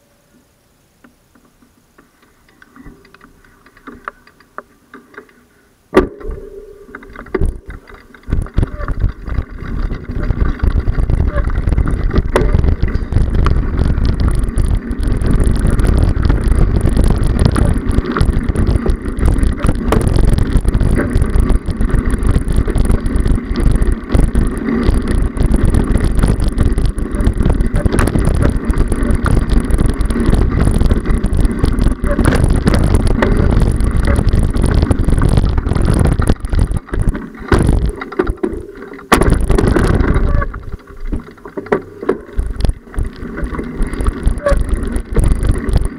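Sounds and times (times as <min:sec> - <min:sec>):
bike rattling: 0:01.3 - 0:45.9
wind buffeting microphone: 0:06.2 - 0:38.4, 0:39.1 - 0:41.3, 0:42.3 - 0:45.9.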